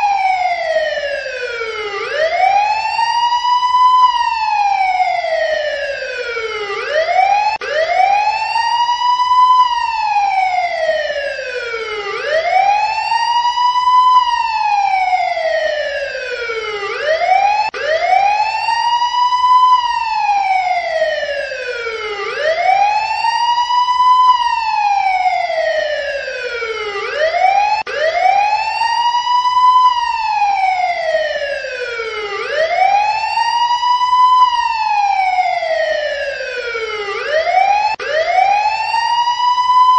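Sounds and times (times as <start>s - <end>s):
emergency vehicle siren wailing: 0.0s - 39.9s.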